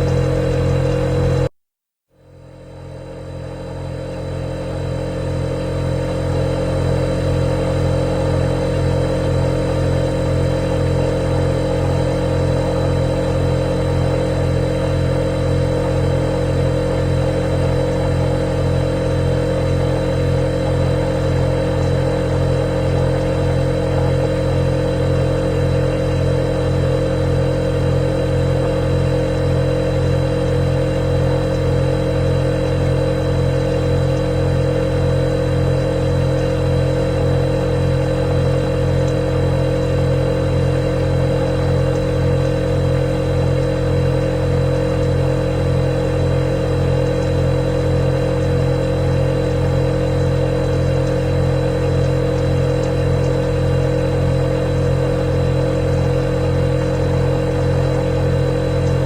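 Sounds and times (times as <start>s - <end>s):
refrigerator compressor hum: 0.0s - 1.5s, 2.2s - 59.0s.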